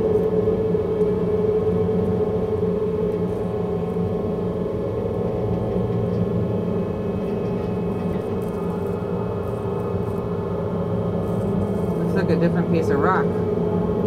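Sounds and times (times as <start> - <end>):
steady drone of sustained tones: 0.0 - 14.0.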